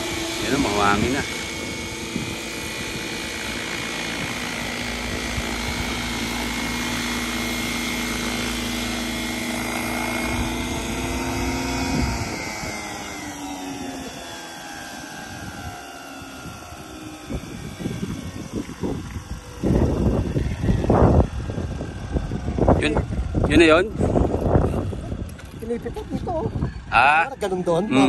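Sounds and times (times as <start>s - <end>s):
model helicopter rotor whine: 0.0s - 28.0s.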